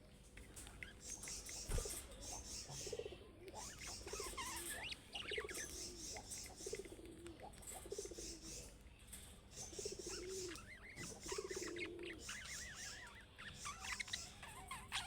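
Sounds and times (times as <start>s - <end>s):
budgerigars chattering: 0.4s - 8.8s, 9.5s - 15.0s.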